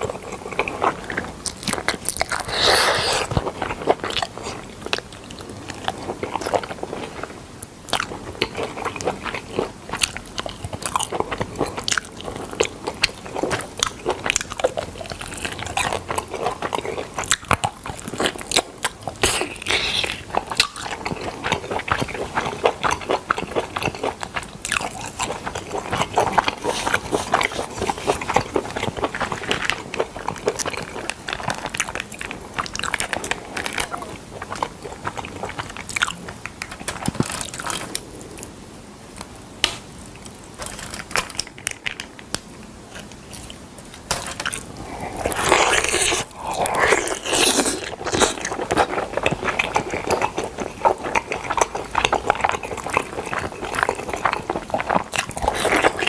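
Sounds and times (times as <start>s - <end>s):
chewing crackly food: 0.0s - 56.0s.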